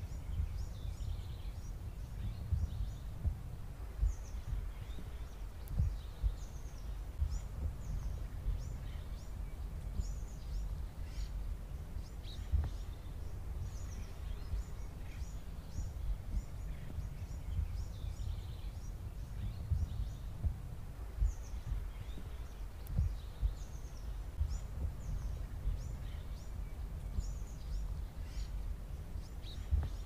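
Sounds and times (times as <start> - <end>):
small birds chirping: 0.0 - 30.0
soft low thumps: 0.0 - 30.0
steady low rumble: 0.0 - 30.0.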